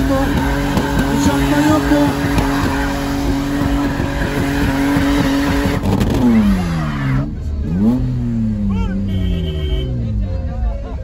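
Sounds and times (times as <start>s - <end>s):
car engine at high revs: 0.0s - 10.8s
other engine noise: 0.0s - 11.0s.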